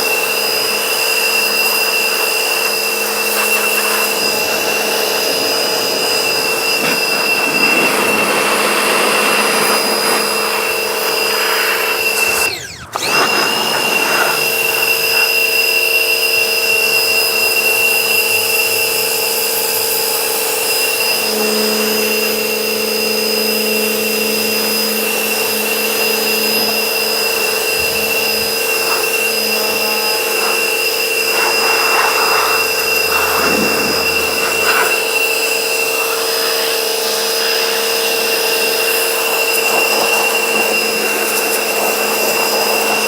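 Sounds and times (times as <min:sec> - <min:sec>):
spray jet hissing: 0:00.0 - 0:17.4, 0:24.5 - 0:43.0
pressure washer motor whine: 0:00.0 - 0:43.0.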